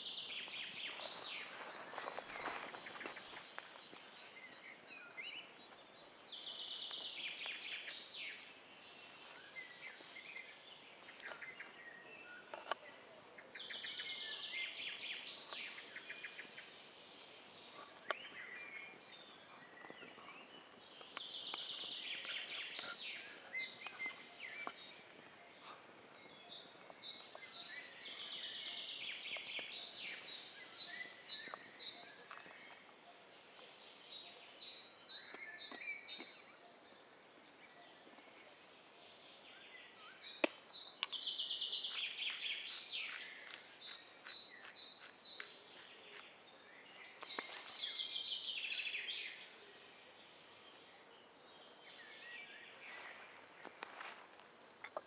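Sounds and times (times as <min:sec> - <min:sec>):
bird trilling song: 0:00.0 - 0:53.2.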